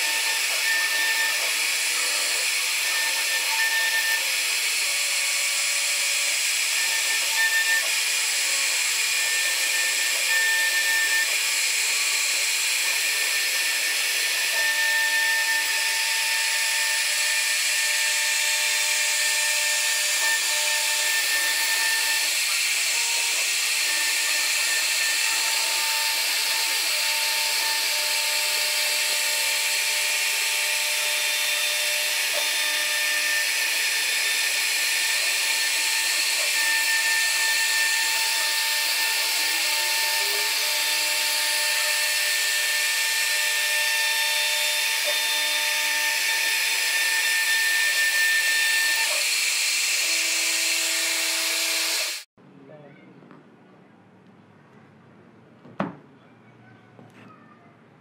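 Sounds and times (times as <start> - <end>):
router bit cutting wood: 0.0 - 52.3.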